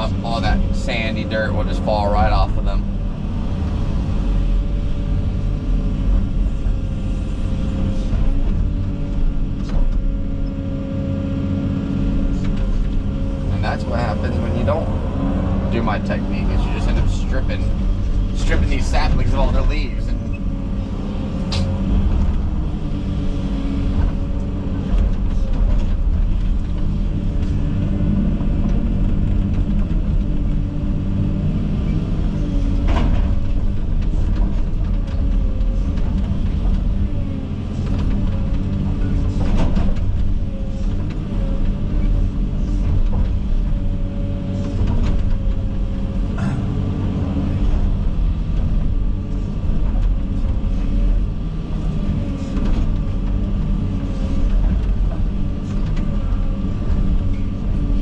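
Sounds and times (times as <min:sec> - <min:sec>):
excavator diesel engine running: 0:00.0 - 0:58.0
hydraulics moving: 0:00.0 - 0:58.0.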